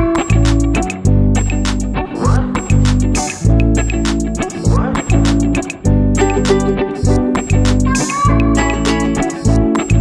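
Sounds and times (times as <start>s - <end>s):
sustained bass notes: 0.0s - 10.0s.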